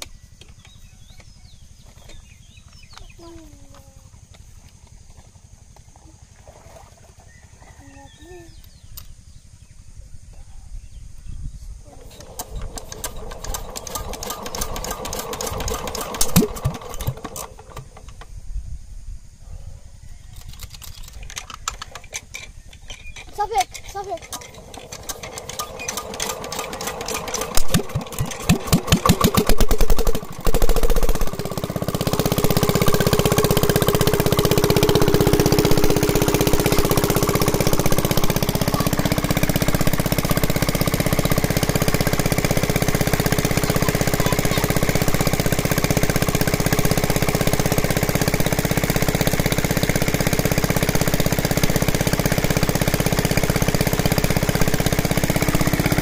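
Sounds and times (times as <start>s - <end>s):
small engine running: 0.0s - 9.8s, 11.8s - 18.2s, 20.4s - 56.0s.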